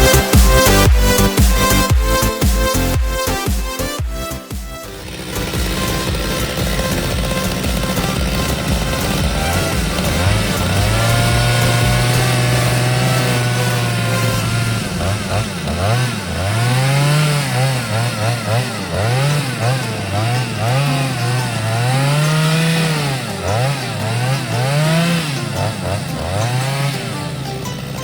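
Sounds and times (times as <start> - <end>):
chainsaw engine revving: 0.0 - 28.0.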